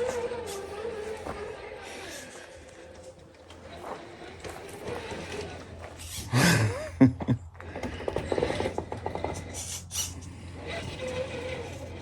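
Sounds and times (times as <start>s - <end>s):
toy car motor whirring and ratcheting: 0.0s - 6.3s, 7.8s - 12.0s.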